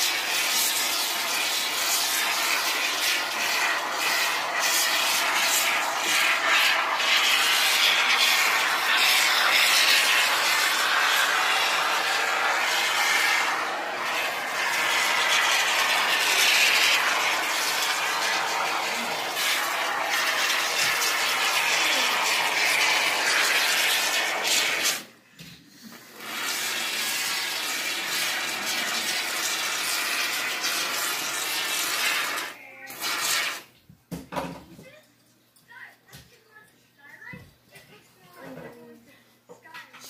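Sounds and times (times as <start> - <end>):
spray foam can hissing: 0.0 - 25.1, 26.1 - 33.7.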